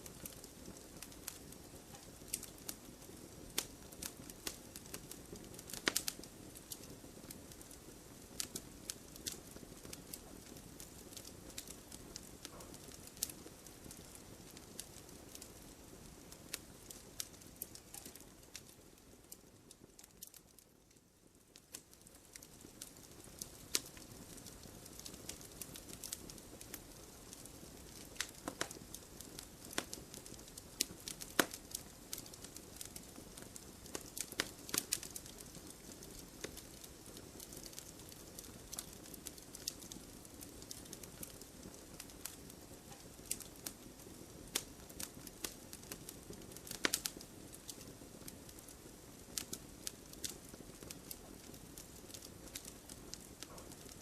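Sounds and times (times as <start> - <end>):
wood logs crackling and popping: 0.0 - 54.0.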